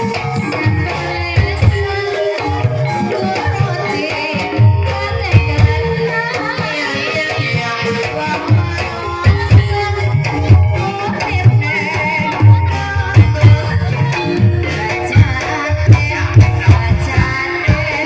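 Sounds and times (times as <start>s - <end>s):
hand drums beating: 0.0s - 18.0s
person singing: 0.0s - 18.0s.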